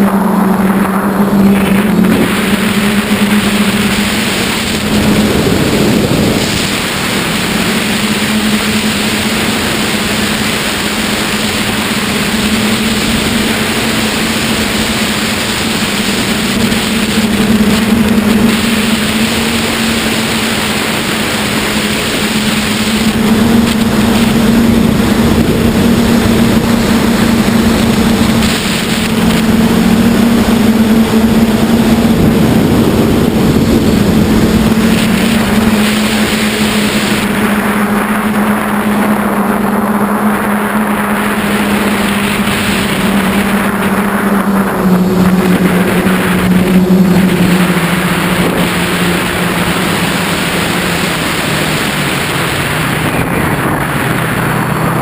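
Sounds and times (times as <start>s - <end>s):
drone motors humming: 0.0s - 55.0s
wind rush: 0.0s - 55.0s.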